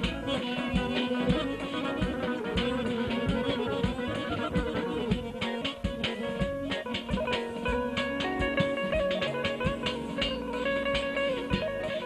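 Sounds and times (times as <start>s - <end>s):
clarinet: 0.0s - 12.0s
drum beats: 0.0s - 12.0s
electric guitar melody: 0.0s - 12.0s.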